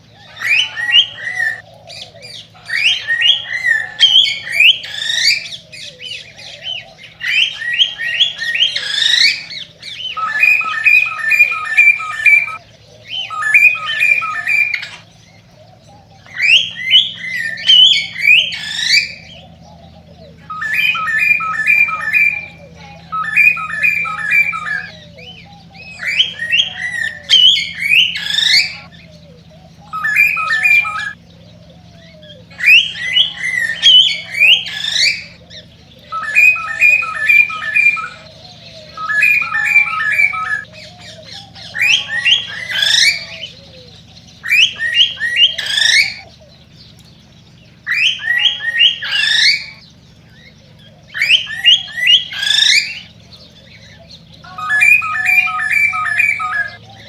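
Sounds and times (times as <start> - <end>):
cockatiel singing: 0.0 - 57.0.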